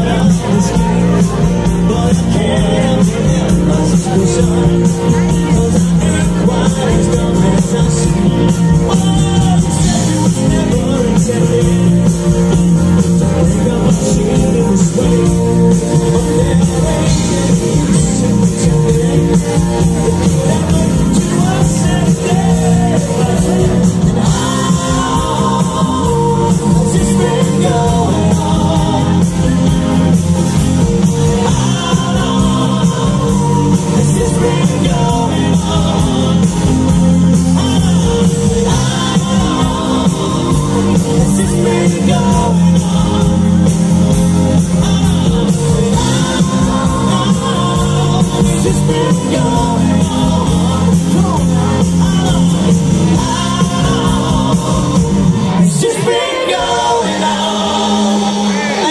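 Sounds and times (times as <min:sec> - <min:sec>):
live rock band: 0:00.0 - 0:58.9
person singing: 0:00.0 - 0:58.9.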